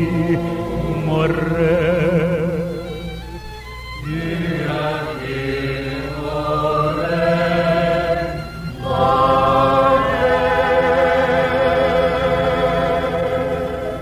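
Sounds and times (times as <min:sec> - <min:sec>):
choir and orchestra chords: 0:00.0 - 0:14.0.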